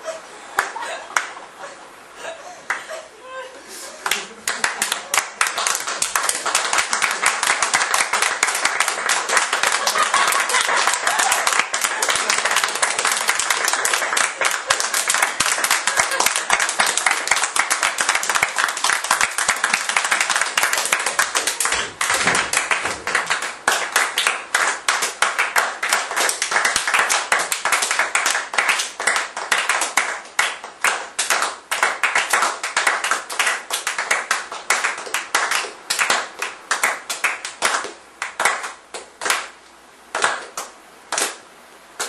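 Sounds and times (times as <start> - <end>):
people clapping: 0.0 - 1.5, 2.6 - 3.0, 4.0 - 41.4.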